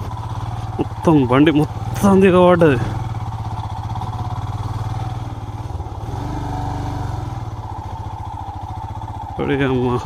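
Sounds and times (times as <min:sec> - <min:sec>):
motorcycle engine pulsing: 0:00.0 - 0:10.0.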